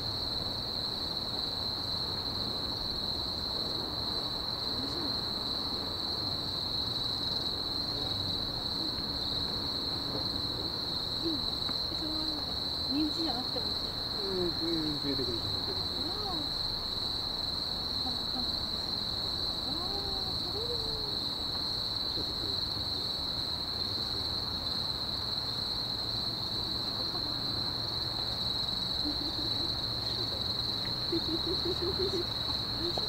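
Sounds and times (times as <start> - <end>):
distant city rumble: 0.0 - 33.0
night insects chirring: 0.0 - 33.0.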